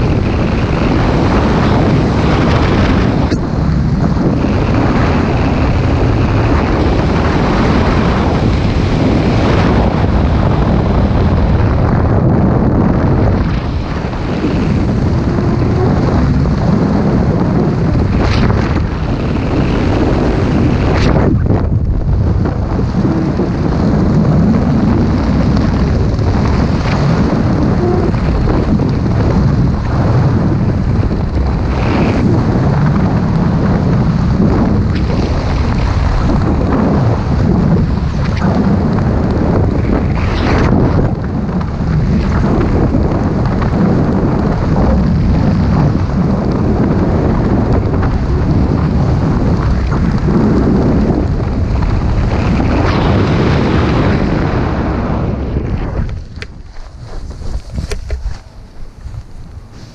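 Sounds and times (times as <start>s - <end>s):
wind rushing on microphone: 0.0s - 59.9s.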